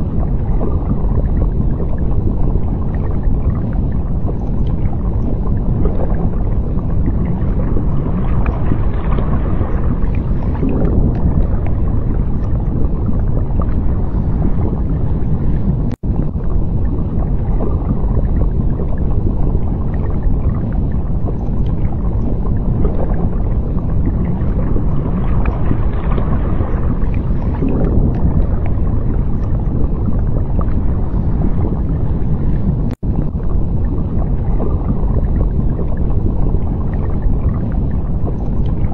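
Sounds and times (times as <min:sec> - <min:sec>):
ocean water rumbling: 0:00.0 - 0:38.9.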